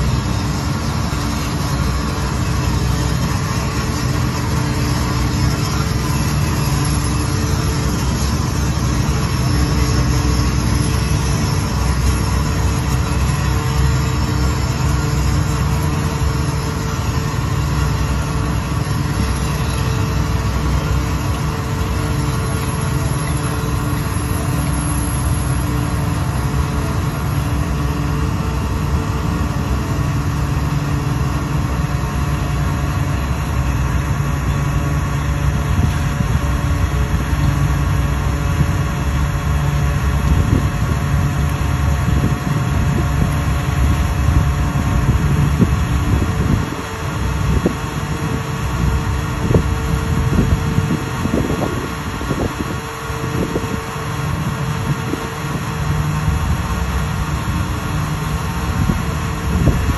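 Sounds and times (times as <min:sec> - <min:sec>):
ferry engine drone: 0:00.0 - 0:59.9
wind and water rushing: 0:00.0 - 0:59.9.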